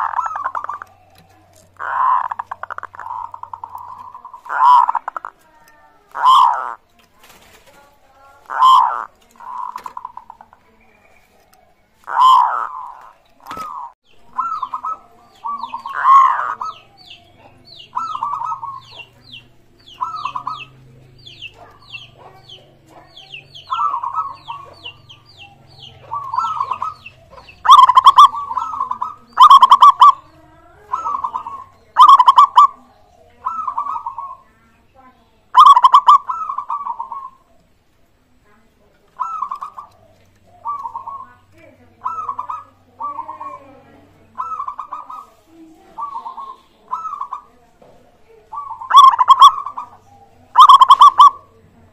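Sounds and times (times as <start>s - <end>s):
dove cooing: 0.0s - 51.9s
small bird chirping: 0.0s - 51.9s.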